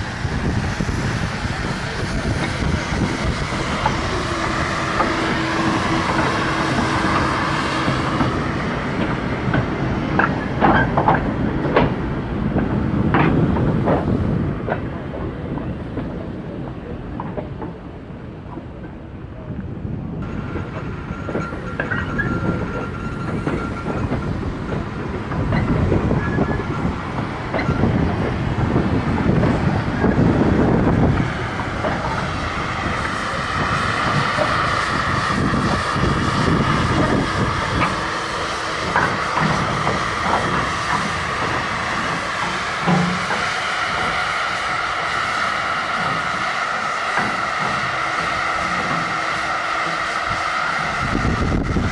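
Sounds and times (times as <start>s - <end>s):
train rumble and wheel clatter: 0.0s - 51.9s.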